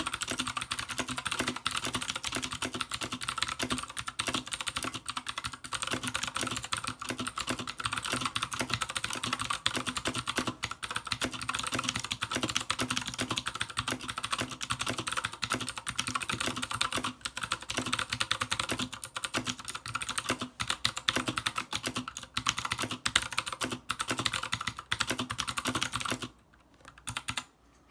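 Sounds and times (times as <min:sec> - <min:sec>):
fast typing on mechanical keyboard: 0:00.0 - 0:27.5.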